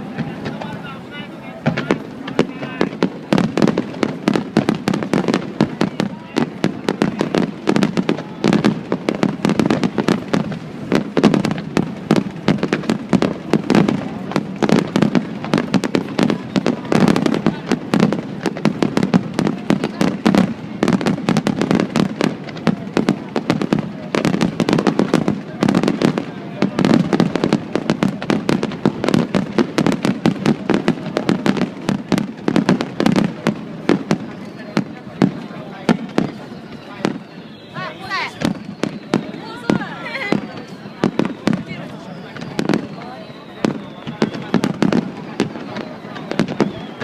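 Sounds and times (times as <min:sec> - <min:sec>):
fireworks bursting: 0:00.0 - 0:47.0.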